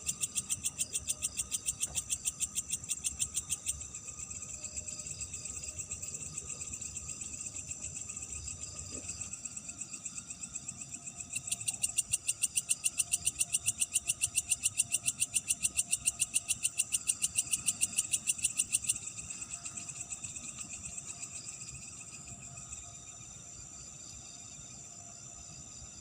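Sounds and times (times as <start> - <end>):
insects chirring: 0.0 - 26.0
loud pulsed insect call: 0.0 - 26.0.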